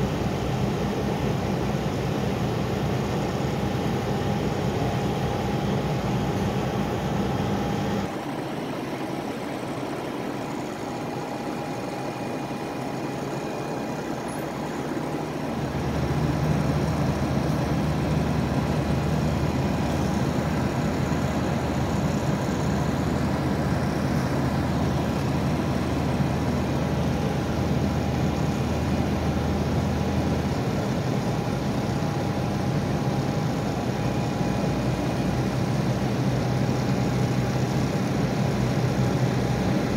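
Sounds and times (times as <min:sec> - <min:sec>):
faint steady whine: 0:00.0 - 0:39.9
heavy vehicle engines idling: 0:00.0 - 0:39.9.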